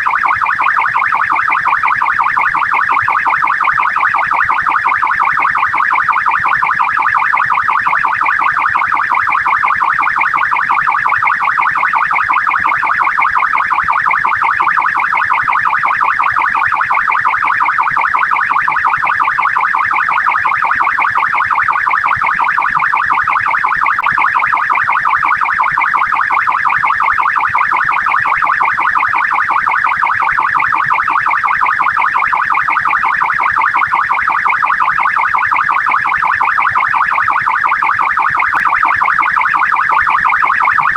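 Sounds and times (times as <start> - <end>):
police siren yelping: 0.0 - 40.9.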